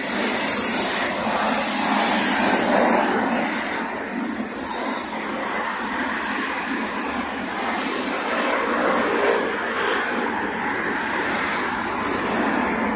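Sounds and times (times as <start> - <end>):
cars passing: 0.0 - 12.9
city road traffic hum: 0.0 - 12.9.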